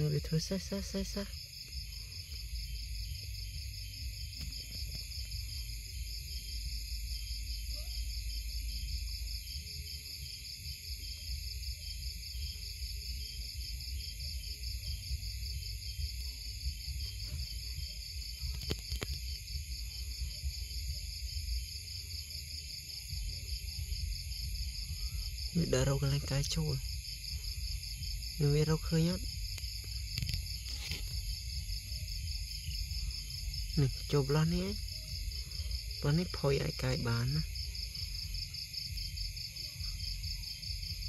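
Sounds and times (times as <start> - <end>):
crickets chirping: 0.0 - 41.0
night insects pulsing chorus: 0.0 - 41.0.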